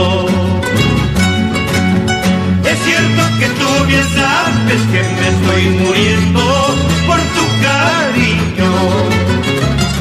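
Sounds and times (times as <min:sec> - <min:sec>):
plucked-string melody: 0:00.0 - 0:10.0
stepping bass notes: 0:00.0 - 0:10.0.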